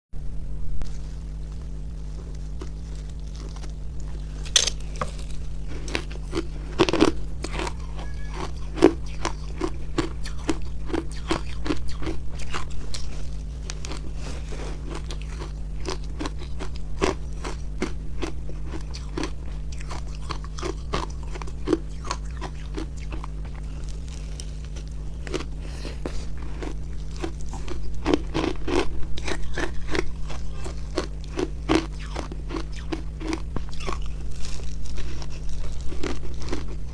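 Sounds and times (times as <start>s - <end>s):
steady low hum: 0.2s - 36.9s
ice crunching while chewed: 0.9s - 36.9s.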